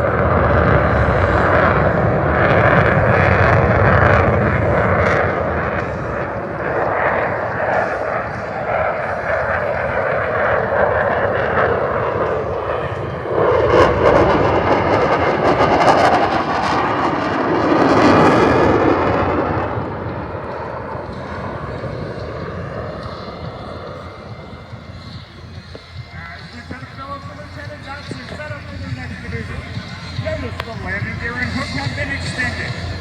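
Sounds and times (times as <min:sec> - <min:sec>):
jet flying by: 0:00.0 - 0:33.0.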